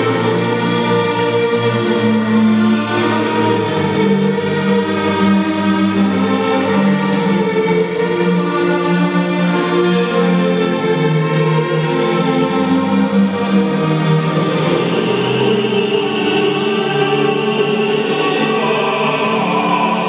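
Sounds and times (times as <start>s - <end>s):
slow string music: 0.0s - 20.0s.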